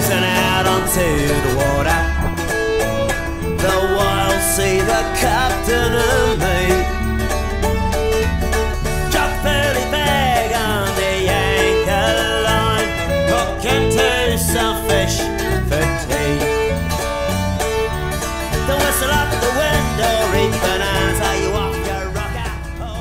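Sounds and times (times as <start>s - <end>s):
banjo: 0.0s - 23.0s
guitar: 0.0s - 23.0s
repeating bass line: 0.0s - 23.0s.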